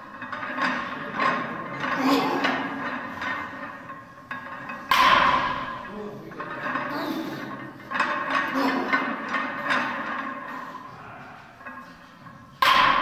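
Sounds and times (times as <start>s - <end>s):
weight plates clanking: 0.0s - 13.0s.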